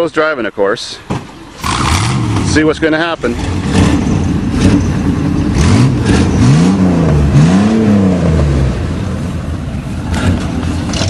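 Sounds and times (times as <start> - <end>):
vehicle engine revving: 1.6 - 11.0.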